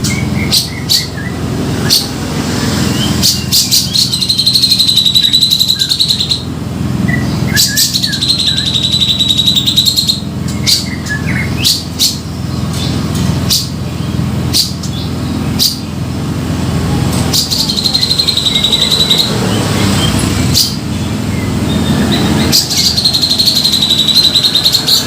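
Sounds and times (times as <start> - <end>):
steady low hum: 0.0 - 25.0
bird rattling trills: 2.8 - 6.5, 7.2 - 25.0.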